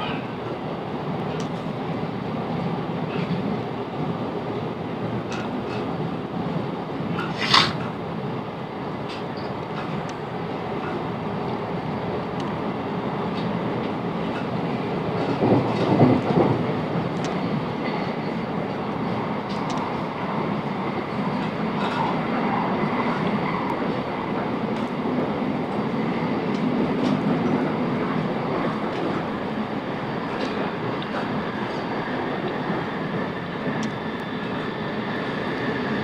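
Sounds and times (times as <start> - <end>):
train clatter: 0.0 - 36.0
train wheels on rails: 0.0 - 36.0.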